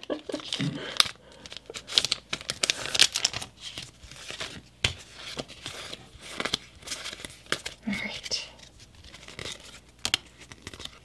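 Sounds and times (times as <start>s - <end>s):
foil wrapper crinkling: 0.1s - 11.0s.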